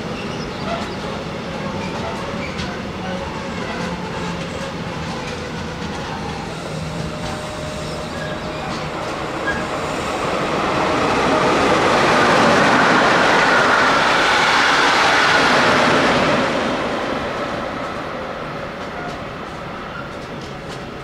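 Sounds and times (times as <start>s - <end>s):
freight train wheel noise: 0.0s - 21.0s
passenger train passing: 0.0s - 21.0s.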